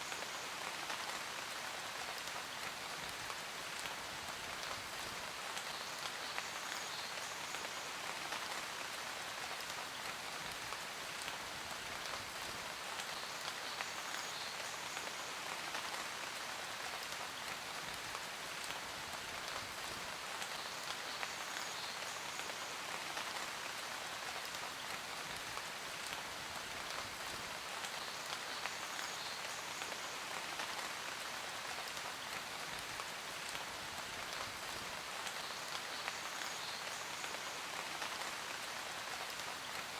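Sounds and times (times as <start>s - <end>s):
dense rain hissing: 0.0s - 39.9s.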